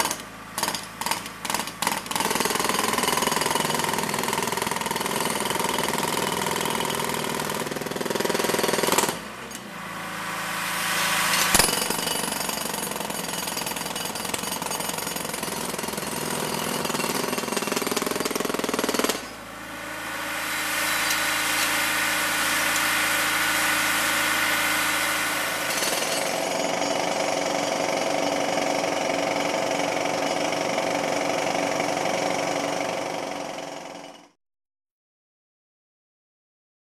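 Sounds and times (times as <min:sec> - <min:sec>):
jackhammers breaking concrete: 0:00.0 - 0:34.3.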